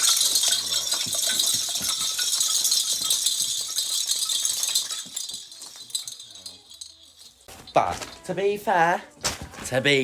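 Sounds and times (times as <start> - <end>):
decorations rustling and rattling: 0.0 - 10.0.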